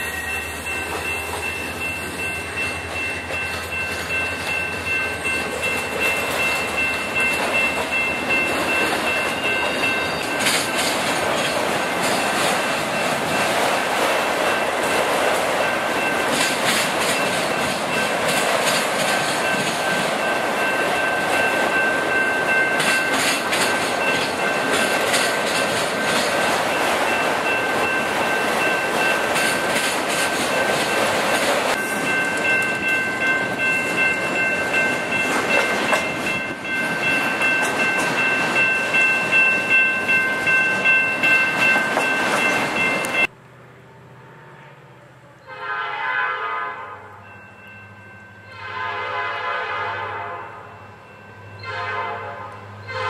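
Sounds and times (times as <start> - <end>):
freight train wheels clattering: 0.0 - 43.3.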